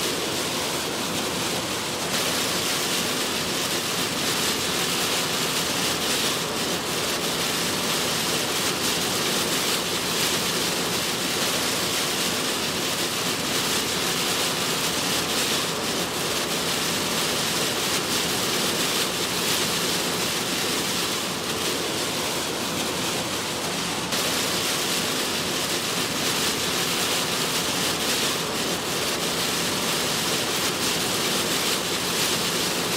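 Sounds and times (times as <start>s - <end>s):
heavy rain on car: 0.0s - 32.9s.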